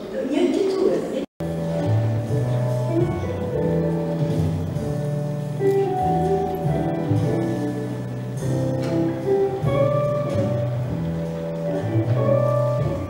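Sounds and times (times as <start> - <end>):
instrumental music with held chords: 1.4 - 13.0.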